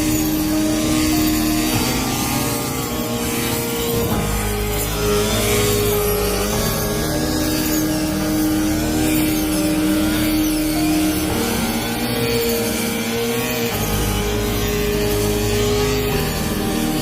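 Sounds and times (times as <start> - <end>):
harvester engine running: 0.0 - 17.0.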